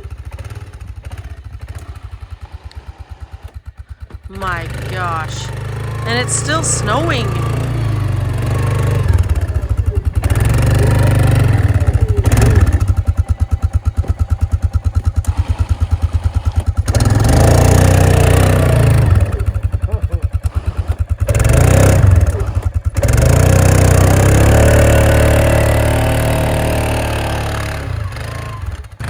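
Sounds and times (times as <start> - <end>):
atv engine revving and idling: 0.0 - 29.0.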